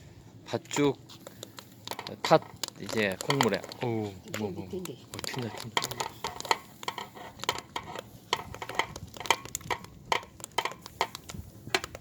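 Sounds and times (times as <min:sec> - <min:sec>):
thick porridge bubbling and spattering: 0:01.0 - 0:12.0
stirring in a cast-iron pot: 0:01.1 - 0:12.0.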